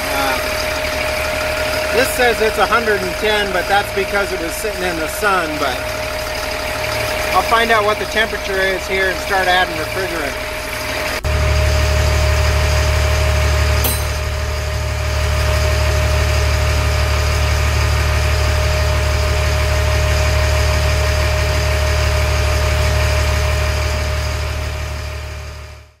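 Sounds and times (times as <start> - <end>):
steady high whine: 0.0 - 23.7
diesel truck engine idling: 0.0 - 26.0.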